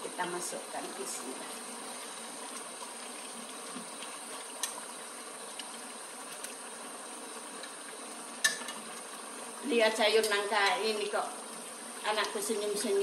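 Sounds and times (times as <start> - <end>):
curry simmering in a pan: 0.0 - 13.0.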